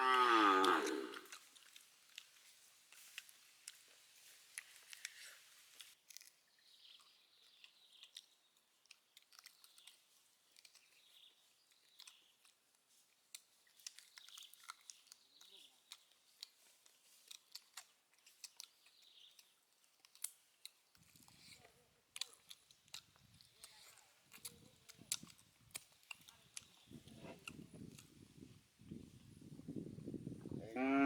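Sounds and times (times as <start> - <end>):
crisp crunching of fried food: 0.6 - 28.2.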